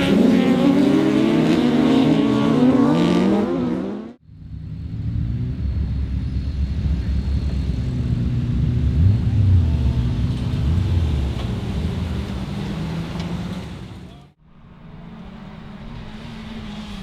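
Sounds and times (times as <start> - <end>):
racing car engines: 0.0 - 17.0.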